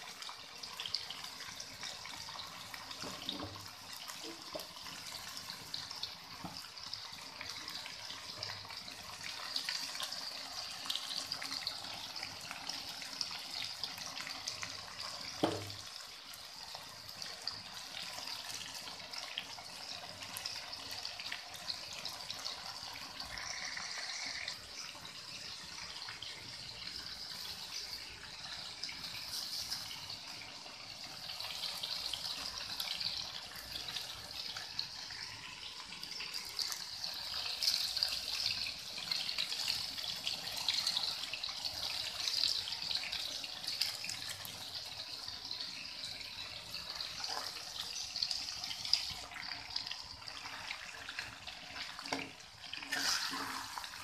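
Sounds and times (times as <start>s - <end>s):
chicken sizzling in a wok: 0.0s - 54.0s.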